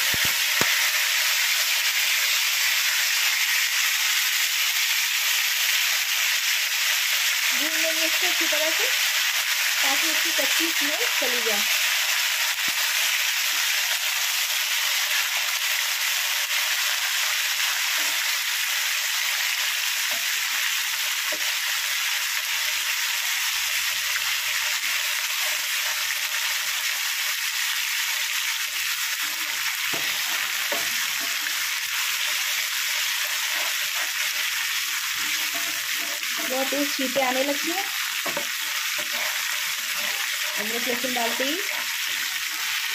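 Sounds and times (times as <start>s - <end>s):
paste sizzling in hot oil: 0.0s - 42.9s.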